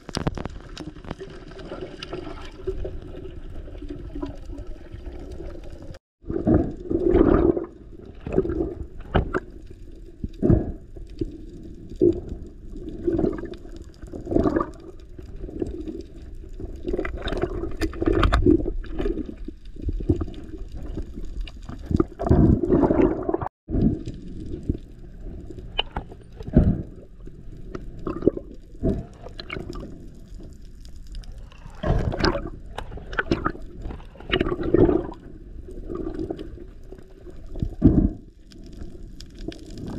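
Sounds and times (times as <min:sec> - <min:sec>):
underwater swishes of water: 0:00.0 - 0:39.9.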